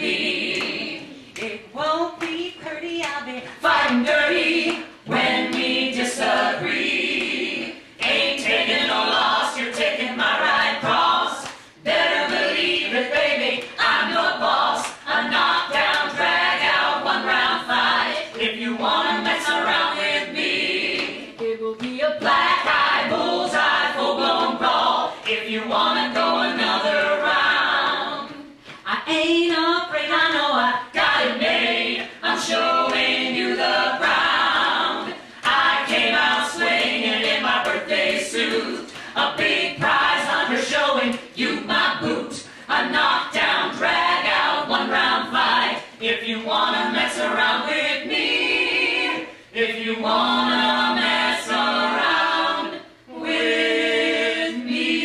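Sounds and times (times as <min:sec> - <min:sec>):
group singing a show tune: 0:00.0 - 0:55.0.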